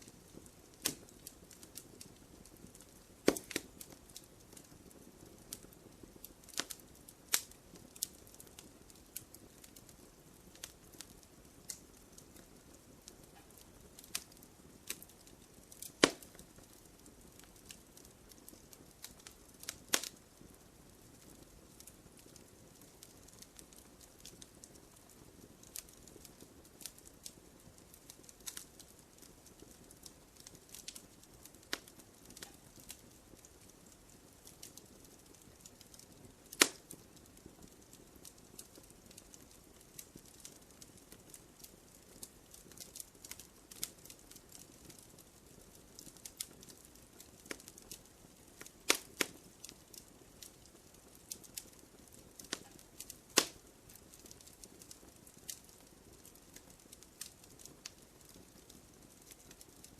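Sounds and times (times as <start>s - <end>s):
faint hiss: 0.0s - 59.9s
wood fire popping and snapping: 0.0s - 59.9s.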